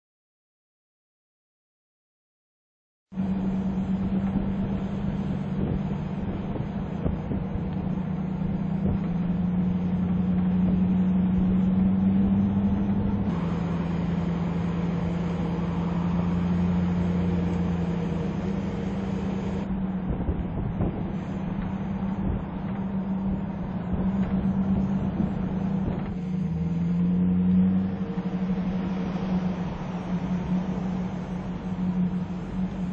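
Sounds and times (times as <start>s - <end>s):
car engine hum: 3.1s - 32.9s
tyre and road noise: 3.1s - 32.9s.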